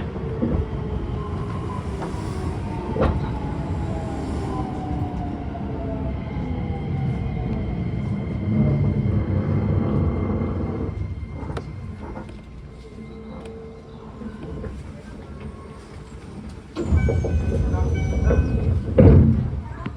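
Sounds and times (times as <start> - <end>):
train running rumble: 0.0 - 19.9.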